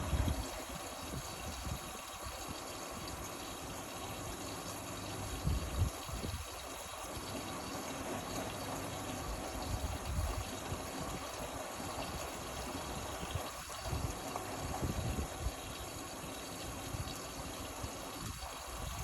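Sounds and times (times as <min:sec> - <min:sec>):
water rushing in washing machine: 0:00.0 - 0:19.0.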